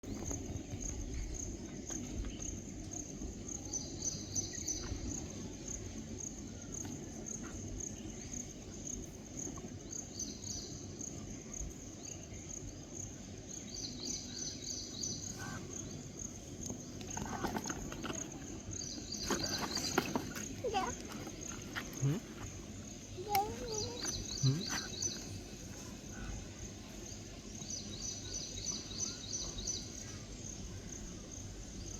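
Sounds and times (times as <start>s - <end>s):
cricket chirping: 0.0s - 31.9s
low rumbling background noise: 0.0s - 31.9s.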